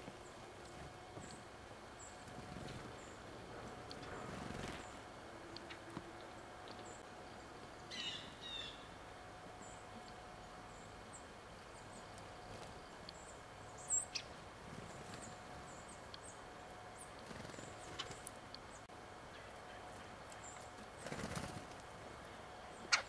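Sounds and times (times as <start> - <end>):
small songbirds calling: 0.0 - 21.6, 22.2 - 23.0.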